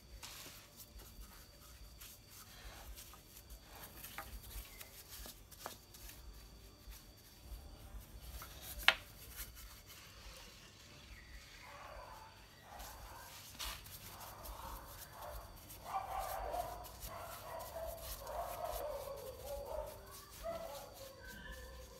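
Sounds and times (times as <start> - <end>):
paintbrush brushing on wood: 0.0 - 21.9.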